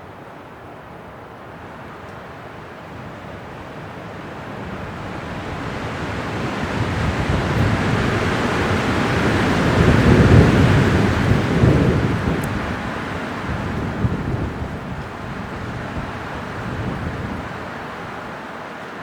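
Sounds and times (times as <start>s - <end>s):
strong wind gusting: 1.6s - 19.0s.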